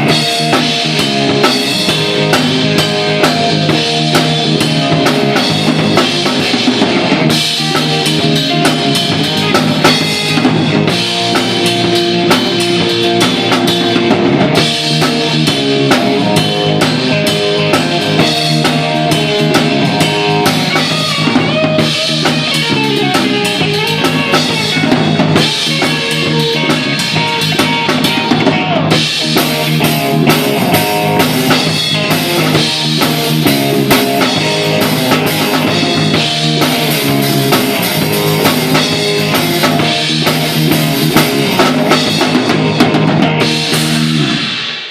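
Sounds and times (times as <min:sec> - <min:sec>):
bass drum and snare: 0:00.0 - 0:44.9
guitar: 0:00.0 - 0:44.9
rock band playing: 0:00.0 - 0:44.9.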